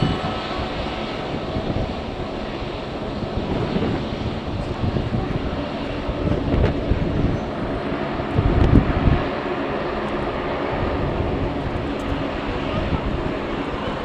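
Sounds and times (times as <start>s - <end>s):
jet aircraft rumble: 0.0s - 14.0s
wind gusting across microphone: 0.0s - 14.0s.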